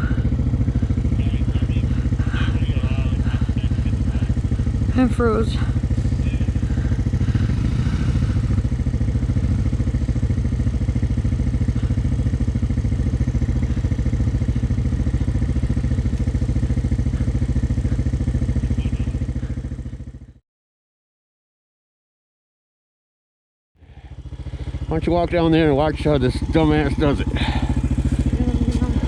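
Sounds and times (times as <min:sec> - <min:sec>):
atv engine idling: 0:00.0 - 0:20.4, 0:23.8 - 0:29.0.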